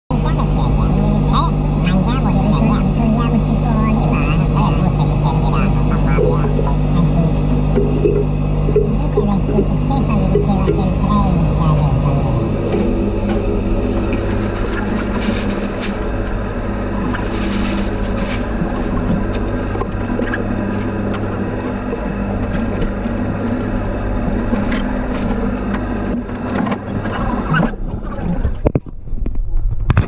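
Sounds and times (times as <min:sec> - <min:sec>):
machinery hum: 0:00.0 - 0:30.0
low drone with held tones: 0:00.1 - 0:28.6.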